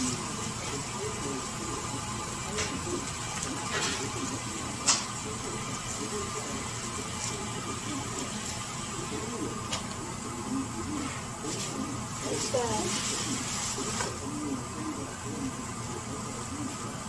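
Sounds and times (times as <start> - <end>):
faint voices: 0.0 - 17.0.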